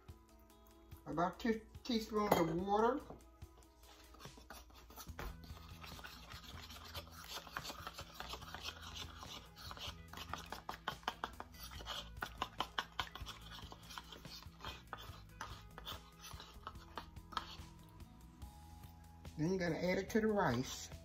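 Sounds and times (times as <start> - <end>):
background music: 0.0 - 21.0
metal spoon scraping bowl: 2.0 - 3.2, 3.8 - 18.1, 19.6 - 21.0.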